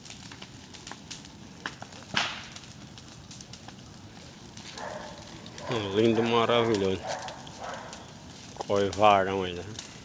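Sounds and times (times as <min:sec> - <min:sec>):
bonfire crackling: 0:00.0 - 0:10.0
wood snapping and popping: 0:00.0 - 0:10.0.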